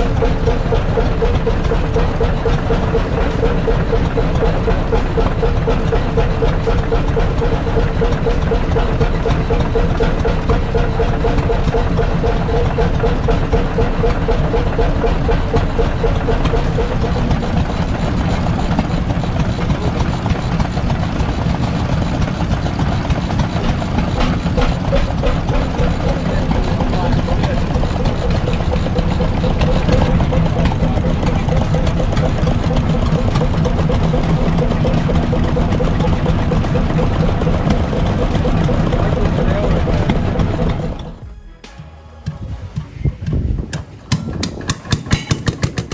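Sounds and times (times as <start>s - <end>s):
big engine running steadily: 0.0s - 45.9s.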